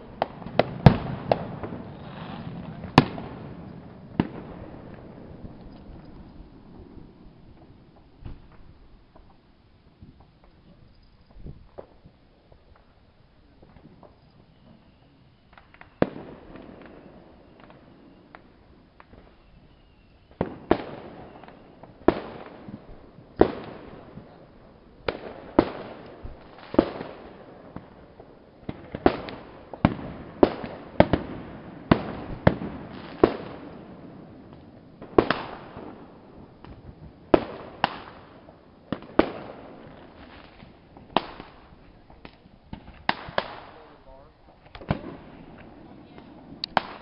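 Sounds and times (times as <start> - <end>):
firework shells bursting: 0.0 - 47.0.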